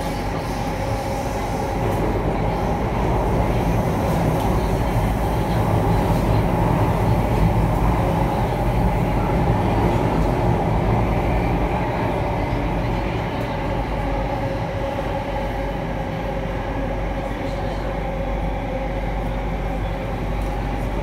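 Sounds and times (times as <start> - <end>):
metro train wheels rumbling: 0.0 - 21.0.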